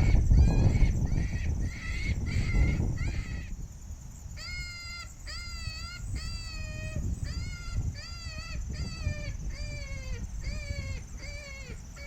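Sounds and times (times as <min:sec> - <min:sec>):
wavering distress cries from predator call: 0:00.0 - 0:03.6, 0:04.4 - 0:12.0.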